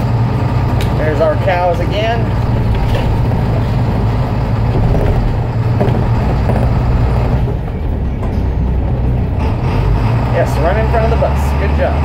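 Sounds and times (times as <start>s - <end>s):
bus diesel engine drone: 0.0s - 12.0s.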